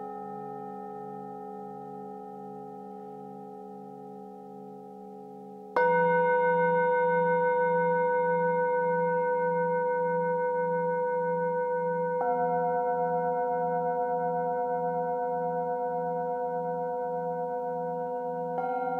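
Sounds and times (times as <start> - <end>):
singing bowls ringing: 0.0 - 18.9.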